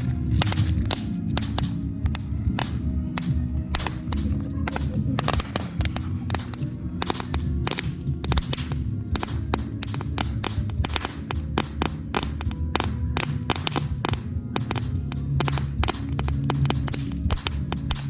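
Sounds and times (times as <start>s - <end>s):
firework cracks and pops: 0.0s - 18.0s
low rumble: 0.0s - 18.0s.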